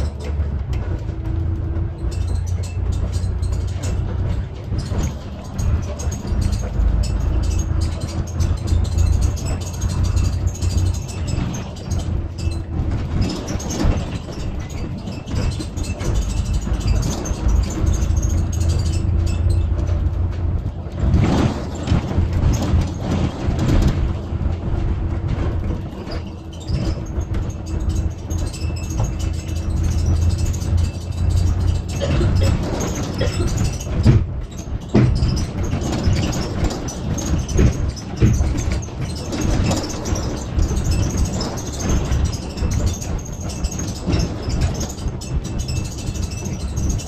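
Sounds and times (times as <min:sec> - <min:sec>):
bus engine rumble: 0:00.0 - 0:47.0
bus fittings rattling: 0:00.0 - 0:47.0
road noise: 0:00.0 - 0:47.0.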